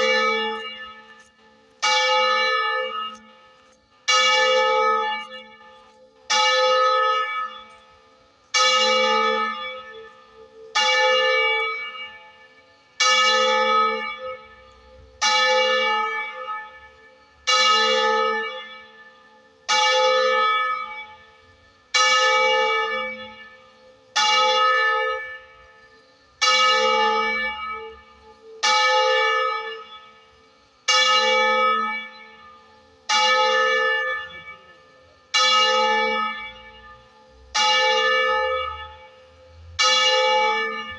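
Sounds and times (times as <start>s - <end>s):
church bell tolling: 0.0s - 40.9s.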